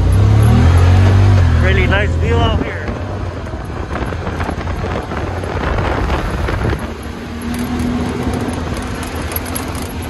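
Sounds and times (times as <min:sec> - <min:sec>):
engine drone: 0:00.0 - 0:10.0
steady engine tone: 0:00.0 - 0:10.0
wind buffeting microphone: 0:00.1 - 0:10.0.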